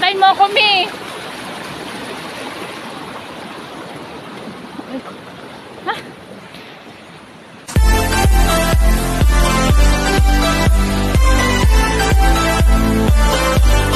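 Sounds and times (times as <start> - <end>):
forest stream rushing: 0.0 - 13.9.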